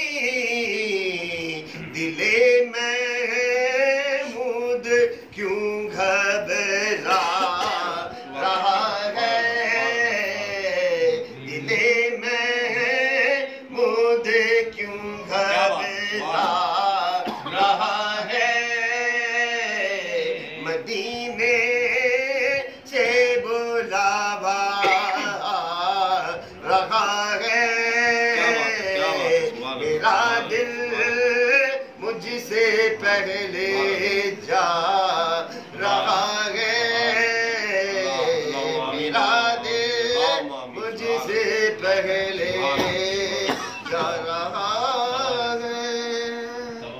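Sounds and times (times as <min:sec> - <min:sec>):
man chanting devotional poem: 0:00.0 - 0:46.9
man singing unaccompanied: 0:00.0 - 0:46.9.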